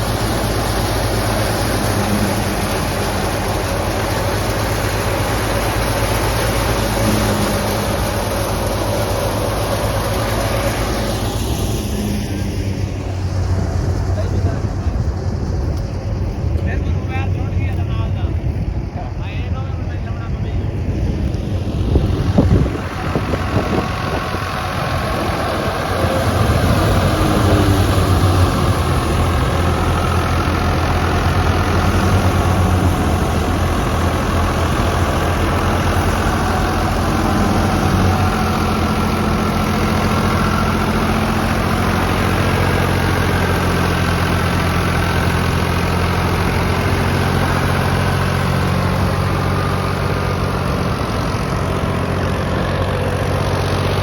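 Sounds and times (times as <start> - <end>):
threshing machine running: 0.0 - 54.0.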